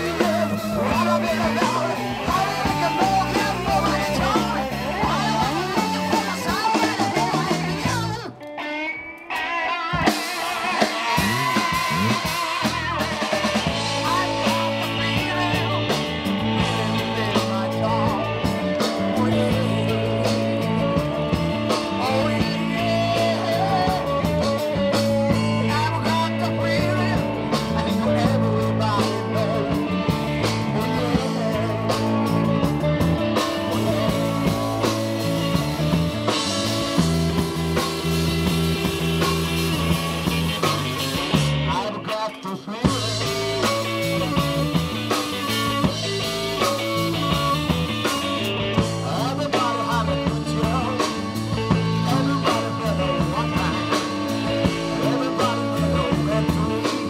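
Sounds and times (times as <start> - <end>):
bass line: 0.0 - 57.0
drum kit beat: 0.0 - 57.0
electric guitar: 0.0 - 57.0.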